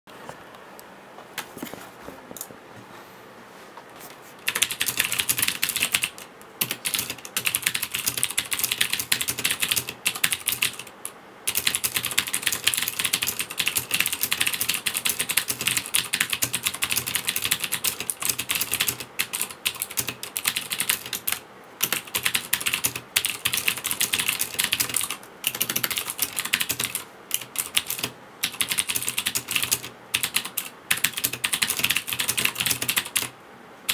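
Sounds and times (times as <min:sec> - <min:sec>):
fast typing on mechanical keyboard: 0:04.5 - 0:33.9.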